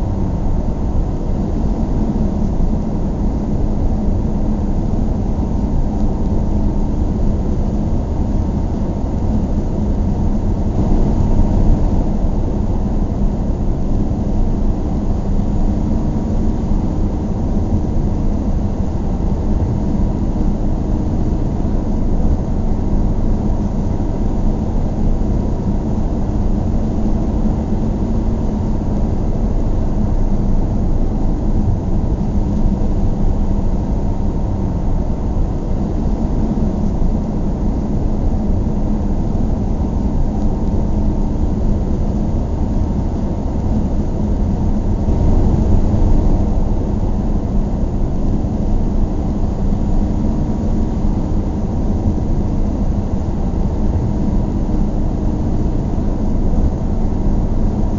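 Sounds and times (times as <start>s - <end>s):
car engine and tyres rumbling: 0.1s - 24.3s, 24.9s - 51.1s.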